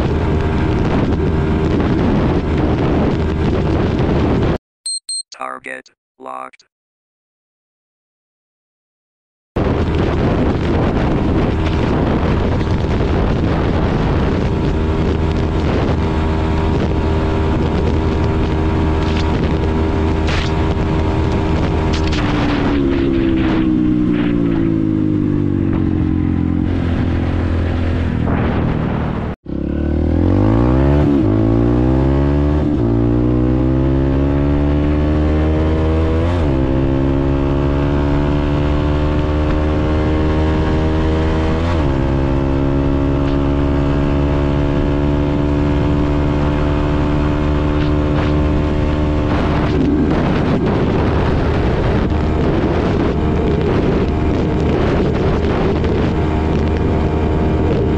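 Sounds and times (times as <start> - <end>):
motorcycle engine revving: 0.0 - 4.6, 9.7 - 57.9.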